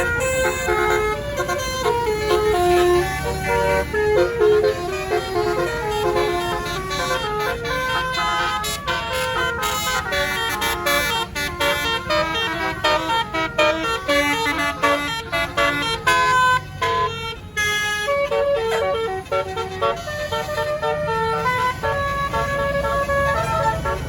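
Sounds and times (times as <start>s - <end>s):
bus engine rumble: 0.0s - 24.0s
musical air horn melody: 0.0s - 24.0s.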